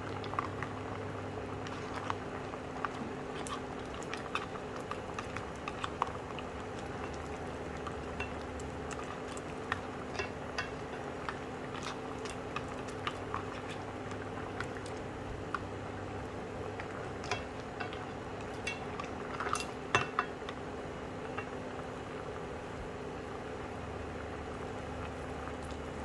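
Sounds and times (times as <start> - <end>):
pot simmering with bubbling hiss: 0.0 - 26.0.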